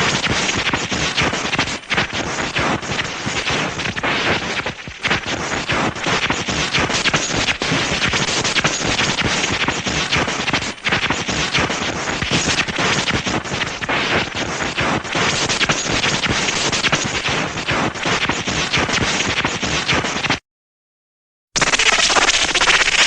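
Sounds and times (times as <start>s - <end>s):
electric sparks crackling: 0.0s - 20.4s, 21.6s - 23.0s.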